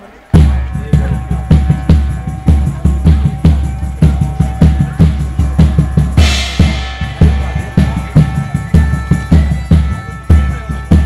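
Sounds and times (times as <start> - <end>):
cymbal crash: 0.4 - 11.0
deep bass drum beats: 0.4 - 11.0
live band music: 0.4 - 11.0.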